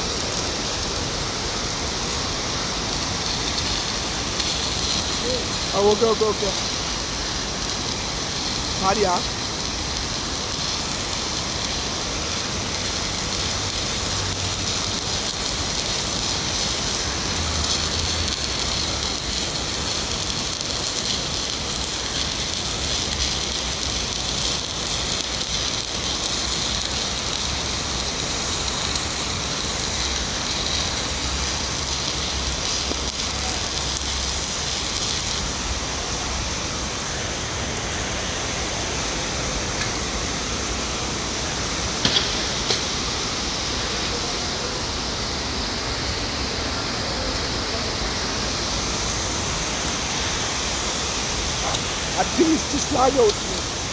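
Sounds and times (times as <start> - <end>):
steady hiss: 0.0 - 53.9
welding arc crackling: 0.0 - 53.9.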